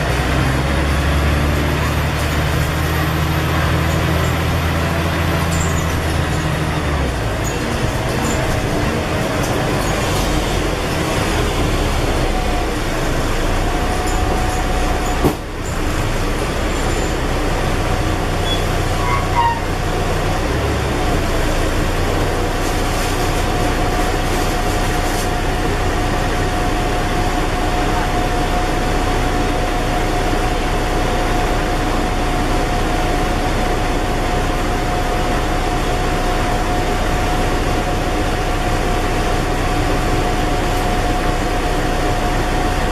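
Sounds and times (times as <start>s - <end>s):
bus diesel engine: 0.0s - 42.9s
road rumble: 0.0s - 42.9s.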